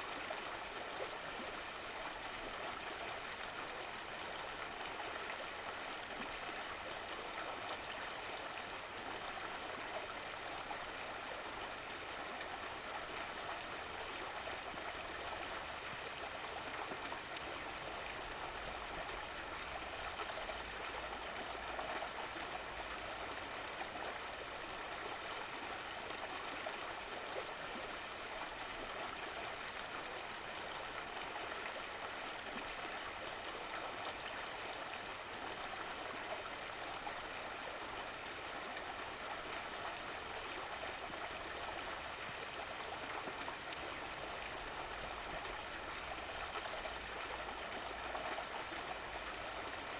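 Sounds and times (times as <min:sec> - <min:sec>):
stream flowing with gurgling: 0:00.0 - 0:49.9.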